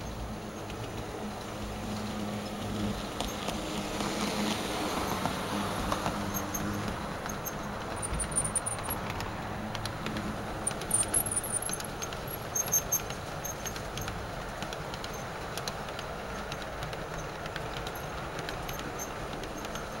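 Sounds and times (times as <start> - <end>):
model train electric hum: 0.0 - 20.0
train wheels rumbling and clicking: 0.0 - 20.0.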